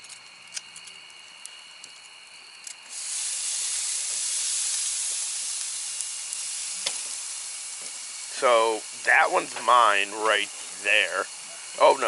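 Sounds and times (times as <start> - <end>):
steak sizzling on grill: 0.0 - 12.0.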